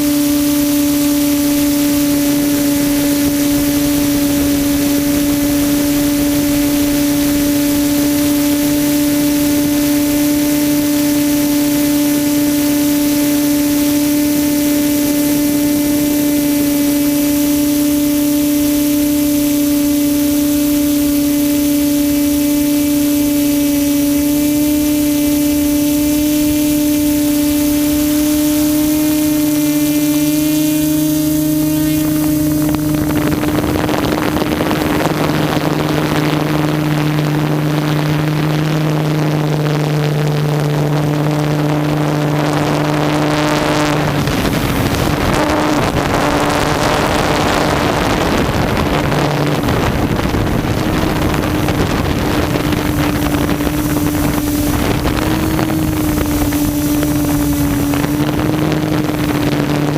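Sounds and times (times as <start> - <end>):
quadcopter propellers humming: 0.0 - 59.9
wind rushing on microphone: 0.0 - 59.9.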